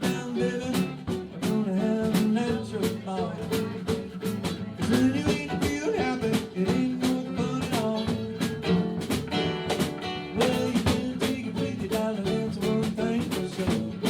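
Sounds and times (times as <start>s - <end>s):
drum kit beat: 0.0s - 14.0s
electric guitar playing: 0.0s - 14.0s.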